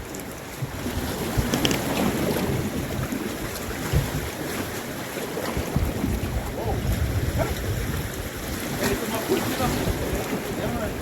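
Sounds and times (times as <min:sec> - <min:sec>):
sea water washing ashore: 0:00.0 - 0:11.0
wind buffeting microphone: 0:00.0 - 0:11.0.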